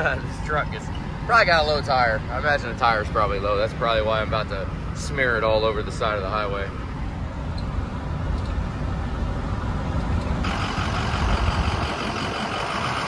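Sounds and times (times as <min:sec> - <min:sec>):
road and wind hiss: 0:00.0 - 0:13.0
truck engine and road rumble: 0:00.0 - 0:13.0.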